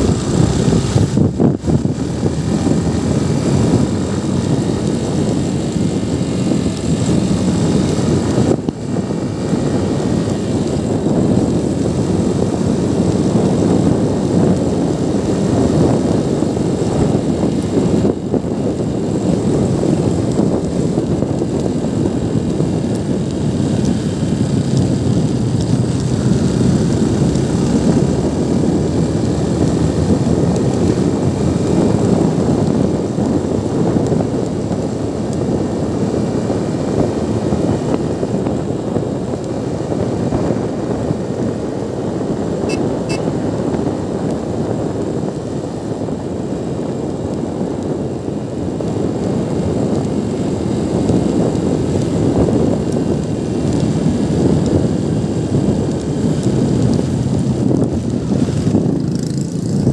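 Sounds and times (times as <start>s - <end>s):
motorcycle road noise: 0.0s - 59.9s
wind buffeting microphone: 0.0s - 59.9s
wind rush: 0.0s - 59.9s.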